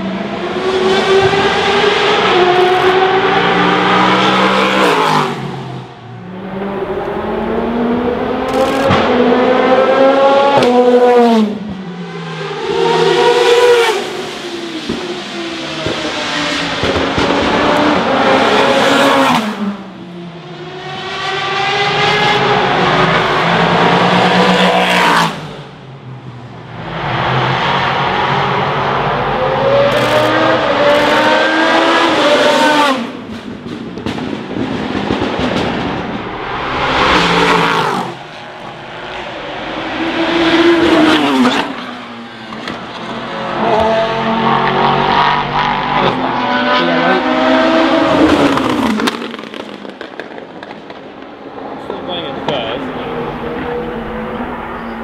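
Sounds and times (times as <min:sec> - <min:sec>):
race cars passing at speed: 0:00.0 - 0:55.0.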